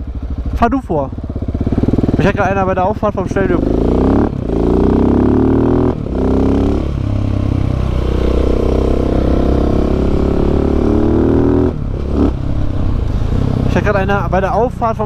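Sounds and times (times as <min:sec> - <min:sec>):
loud motorcycle exhaust: 0:00.0 - 0:14.8.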